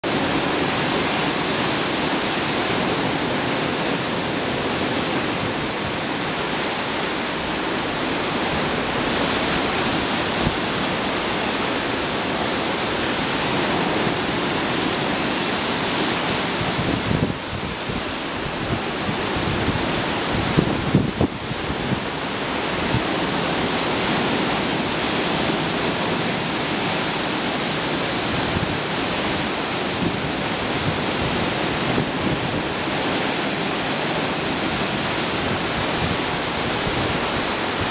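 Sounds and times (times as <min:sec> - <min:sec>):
sea water rushing: 0:00.0 - 0:37.9
wind: 0:00.0 - 0:37.9
wind buffeting microphone: 0:02.4 - 0:37.9.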